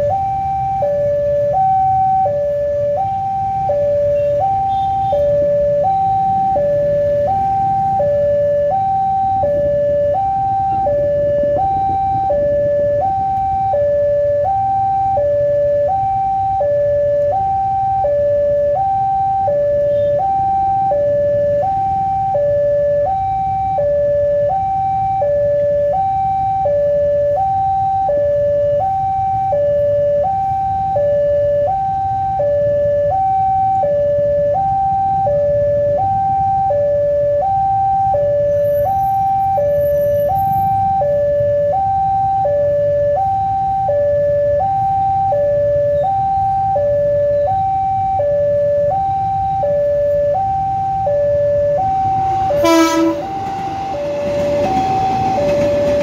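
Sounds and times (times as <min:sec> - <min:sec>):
idling road traffic rumble: 0:00.0 - 0:56.0
two-tone level crossing alarm: 0:00.0 - 0:56.0.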